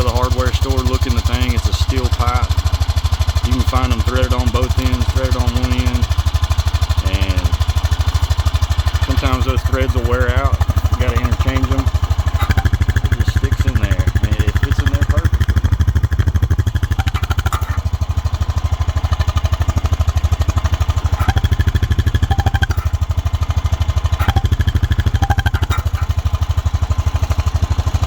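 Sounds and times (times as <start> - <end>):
atv engine idling: 0.0 - 28.0.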